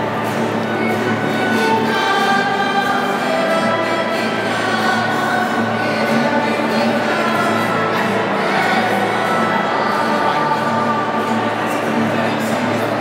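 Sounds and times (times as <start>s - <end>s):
children's choir singing: 0.0s - 13.0s
violin: 0.0s - 13.0s.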